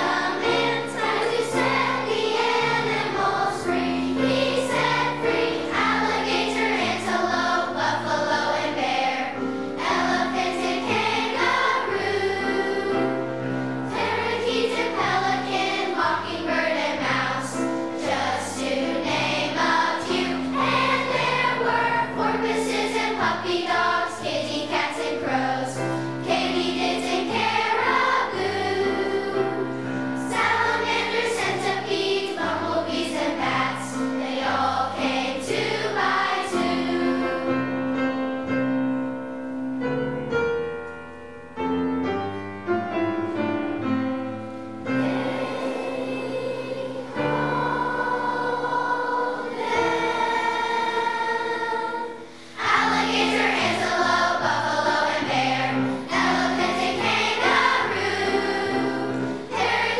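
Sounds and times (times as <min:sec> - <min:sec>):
children's choir singing: 0:00.0 - 0:38.9, 0:42.9 - 0:59.9
piano accompaniment: 0:00.0 - 0:59.9.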